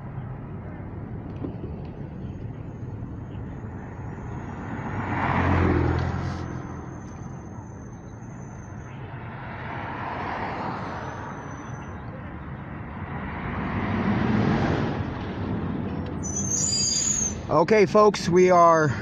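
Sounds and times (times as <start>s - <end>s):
steady road noise: 0.0s - 19.0s
vehicle passing: 0.5s - 16.2s.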